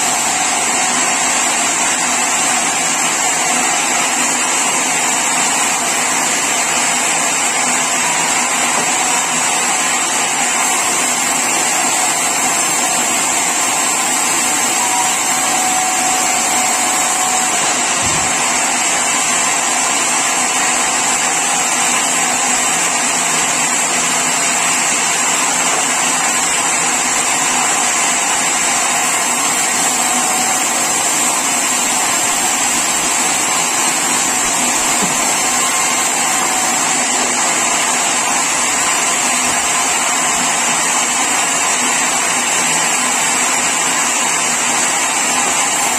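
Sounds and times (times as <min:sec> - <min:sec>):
sawmill saw running: 0:00.0 - 0:45.9.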